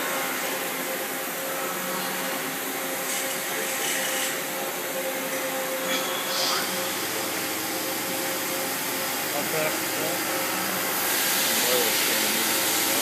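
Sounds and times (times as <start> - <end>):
lathe spindle whirring: 0.0 - 13.0.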